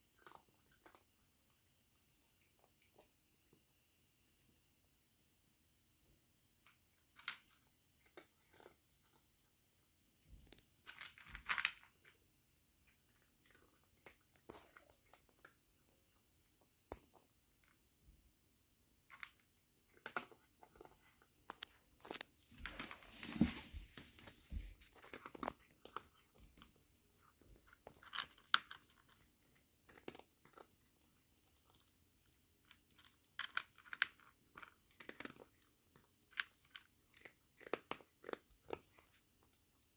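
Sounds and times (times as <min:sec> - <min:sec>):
cat crunching dry kibble: 0:00.0 - 0:03.6, 0:06.6 - 0:18.0, 0:18.8 - 0:39.9.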